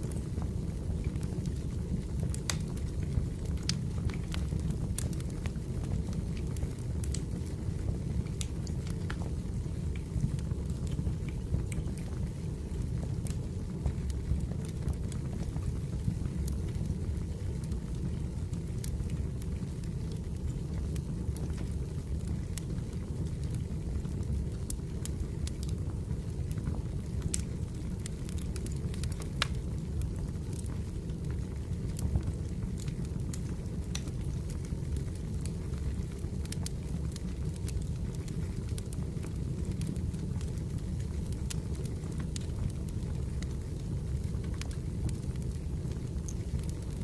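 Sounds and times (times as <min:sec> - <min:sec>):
firewood crackling and popping: 0:00.0 - 0:47.0
low fire rumble: 0:00.0 - 0:47.0.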